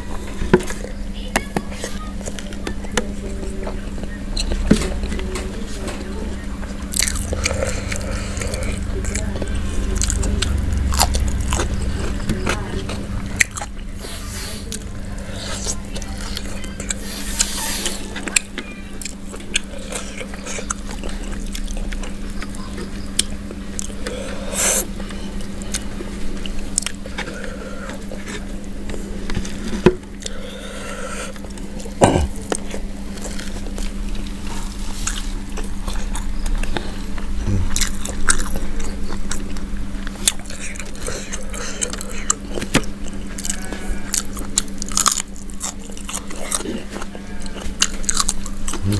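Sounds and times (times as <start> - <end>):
steady low hum: 0.0 - 48.9
chewing and biting: 0.1 - 30.4, 31.2 - 48.9.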